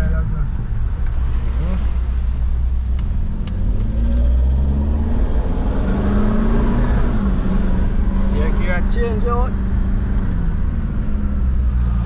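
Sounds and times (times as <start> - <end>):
car engine: 0.0 - 12.0
road rumble inside car: 0.0 - 12.0.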